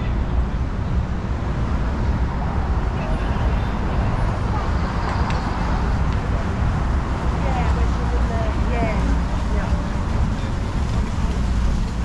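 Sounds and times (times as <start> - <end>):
faint voices of passers-by: 0.0 - 12.0
road traffic rumble: 0.0 - 12.0.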